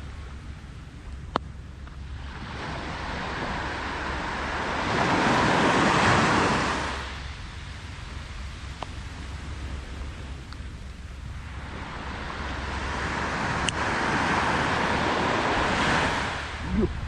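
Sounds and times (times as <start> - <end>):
wind rumble on microphone: 0.0 - 17.0
sea wave breaking: 2.0 - 17.0.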